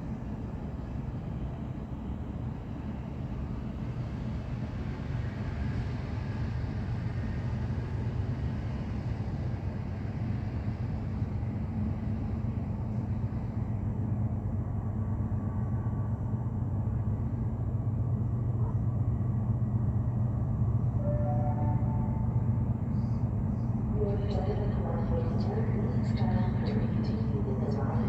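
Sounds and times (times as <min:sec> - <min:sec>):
freight train diesel rumble: 0:00.0 - 0:28.0.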